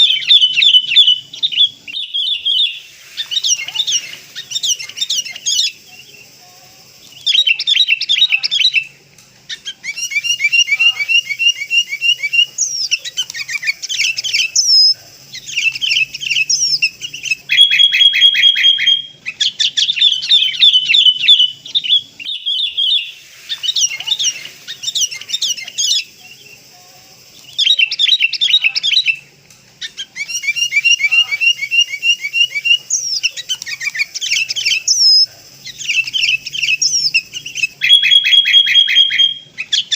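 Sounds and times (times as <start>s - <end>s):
birds chattering and trilling: 0.0s - 39.9s.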